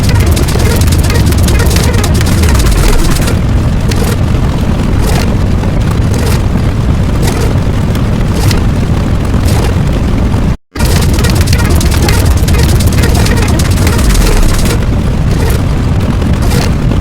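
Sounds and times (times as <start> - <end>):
distorted bass rumbling: 0.0 - 17.0.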